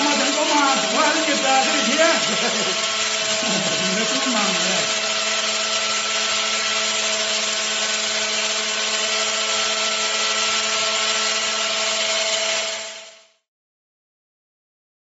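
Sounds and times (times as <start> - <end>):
angle grinder running: 0.0 - 13.4.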